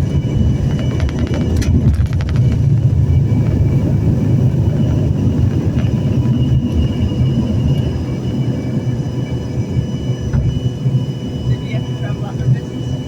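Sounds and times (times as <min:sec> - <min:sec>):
airliner cabin engine rumble: 0:00.0 - 0:13.0
faint high whine: 0:00.0 - 0:13.0.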